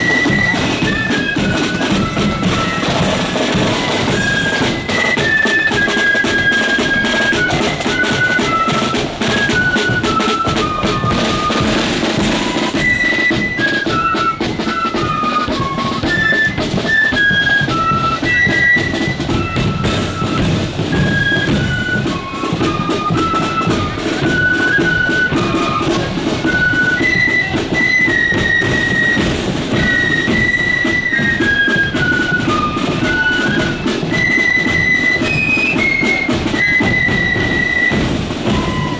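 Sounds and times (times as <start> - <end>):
flute melody: 0.0 - 38.9
marching drums: 0.0 - 38.9.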